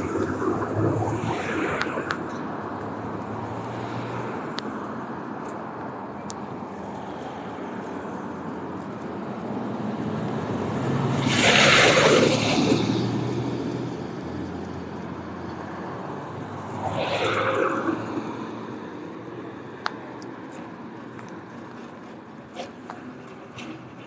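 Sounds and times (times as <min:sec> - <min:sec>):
cars passing: 0:00.0 - 0:24.0
engine hum and tyre noise: 0:00.0 - 0:24.0.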